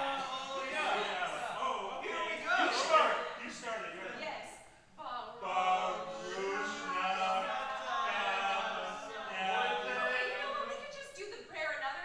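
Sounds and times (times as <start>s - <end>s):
group singing unaccompanied: 0.0s - 4.2s, 5.2s - 11.0s.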